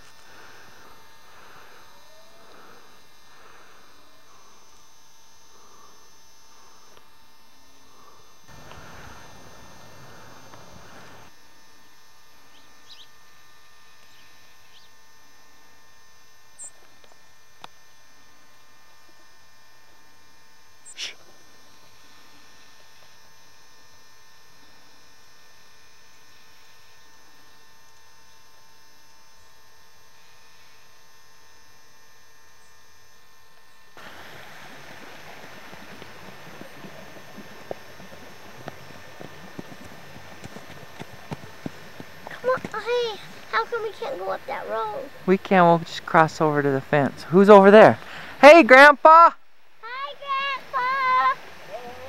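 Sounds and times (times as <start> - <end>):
faint electrical hum: 0.0 - 52.0.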